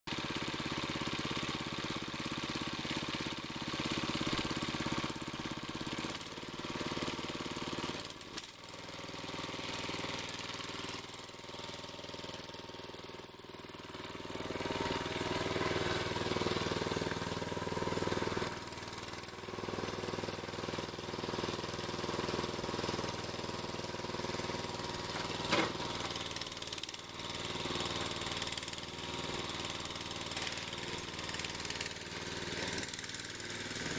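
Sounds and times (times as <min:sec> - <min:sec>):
mower engine running: 0:00.1 - 0:33.9.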